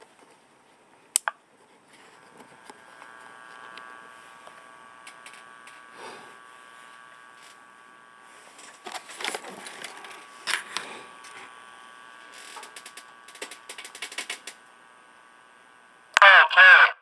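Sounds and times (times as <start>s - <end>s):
faint high electrical hum: 0.0s - 17.0s.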